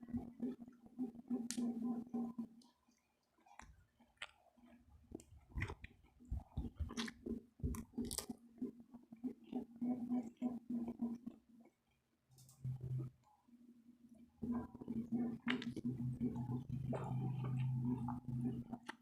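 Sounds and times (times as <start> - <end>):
person chewing food: 0.0 - 12.1, 14.4 - 19.0.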